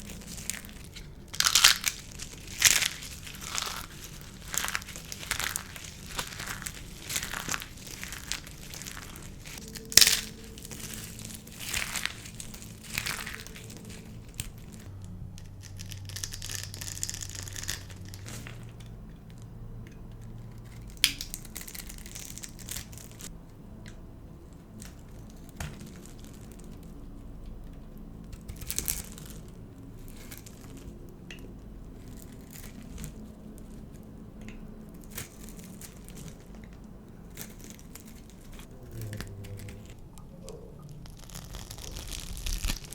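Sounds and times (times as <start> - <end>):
dry soap crushed and snapped: 0.0 - 40.0, 40.8 - 42.9.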